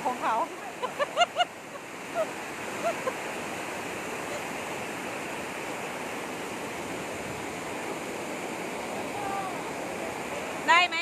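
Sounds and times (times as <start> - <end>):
stream rushing water: 0.0 - 11.0.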